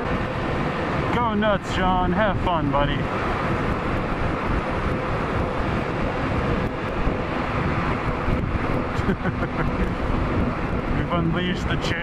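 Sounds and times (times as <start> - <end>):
motorcycle engine cruising: 0.0 - 12.0
wind rushing over microphone: 0.0 - 12.0.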